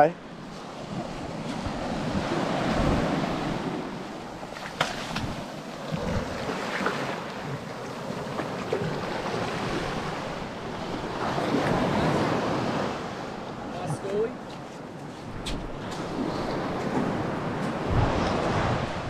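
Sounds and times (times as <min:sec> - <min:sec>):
surf washing up beach: 0:00.0 - 0:19.0
wind buffeting microphone: 0:00.4 - 0:14.2, 0:15.2 - 0:19.0.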